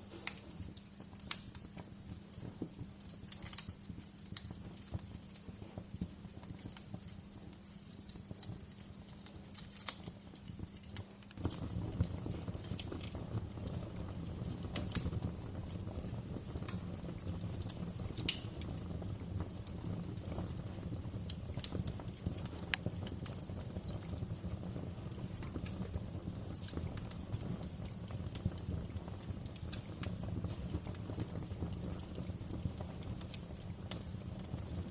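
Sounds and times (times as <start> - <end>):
low rumble of burning logs: 0.0 - 34.9
wood fire crackling and popping: 0.0 - 34.9.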